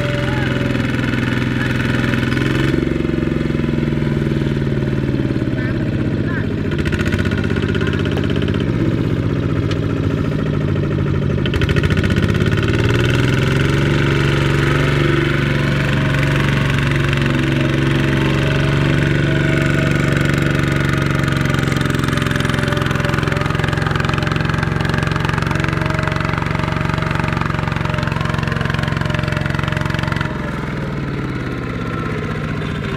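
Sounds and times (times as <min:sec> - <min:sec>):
diesel engine running under load: 0:00.0 - 0:32.9.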